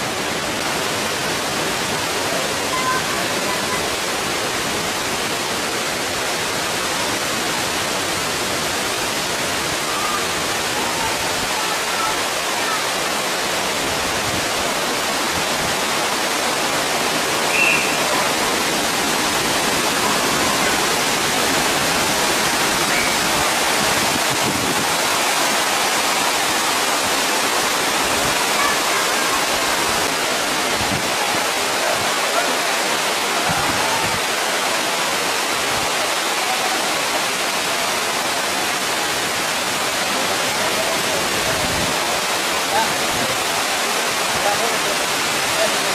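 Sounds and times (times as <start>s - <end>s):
stream water flowing: 0.0s - 45.9s.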